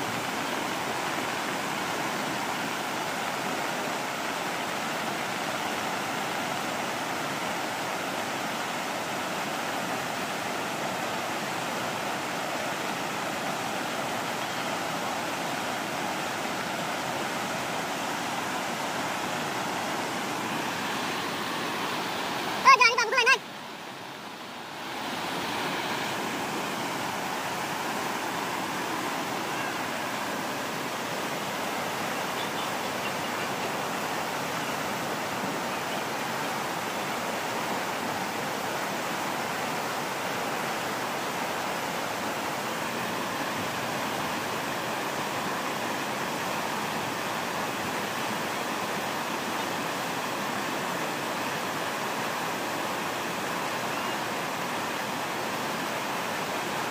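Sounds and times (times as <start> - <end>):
rushing river: 0.0 - 56.9.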